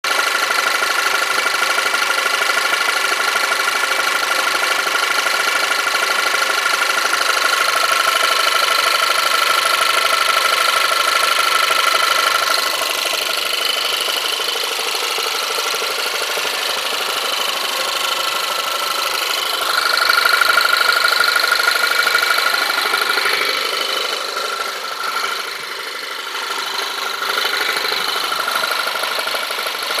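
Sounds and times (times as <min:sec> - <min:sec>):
car engine running: 0:00.1 - 0:30.0.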